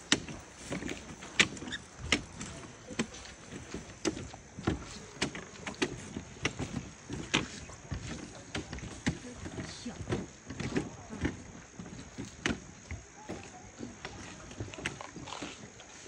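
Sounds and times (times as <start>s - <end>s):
pandas chewing bamboo: 0.0s - 16.0s.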